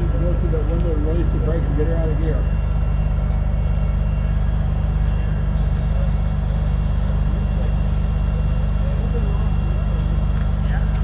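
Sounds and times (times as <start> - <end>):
heavy truck engine droning: 0.0 - 11.0.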